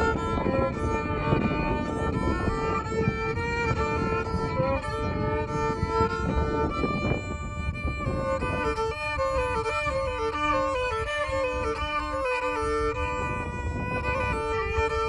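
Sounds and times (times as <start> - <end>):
solo violin: 0.0 - 15.0
wind rumbling on microphone: 0.0 - 15.0.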